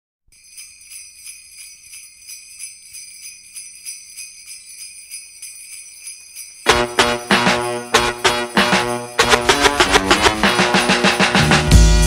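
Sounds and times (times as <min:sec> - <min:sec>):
sleigh bells shaken: 0:00.3 - 0:11.9.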